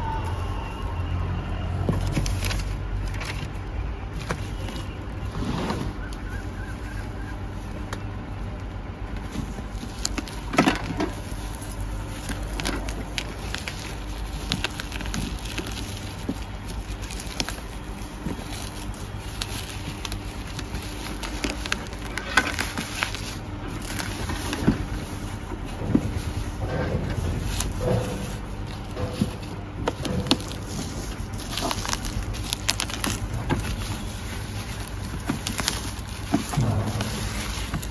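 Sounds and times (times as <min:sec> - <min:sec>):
bubble wrap crinkling: 0:00.0 - 0:37.9.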